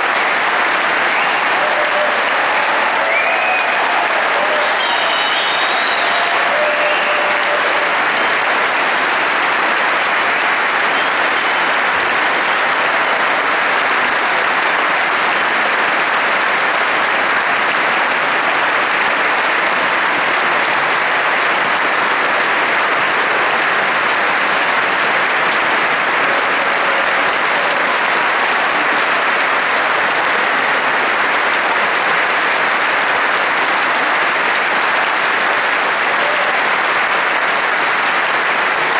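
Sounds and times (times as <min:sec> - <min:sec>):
audience applause: 0:00.0 - 0:38.9.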